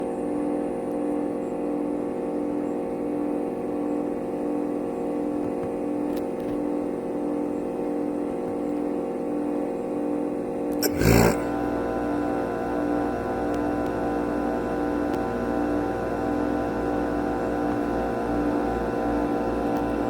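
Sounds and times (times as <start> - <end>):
heat pump humming: 0.0 - 20.0.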